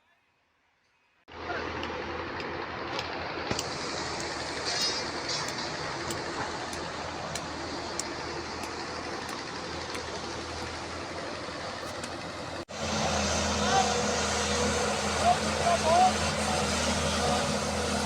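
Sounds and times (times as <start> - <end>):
heavy machine running: 1.3 - 18.0.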